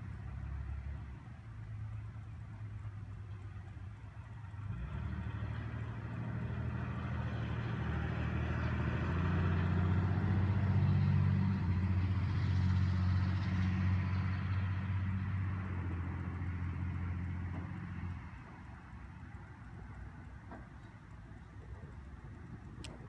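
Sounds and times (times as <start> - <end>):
vehicle passing: 0.0 - 22.6.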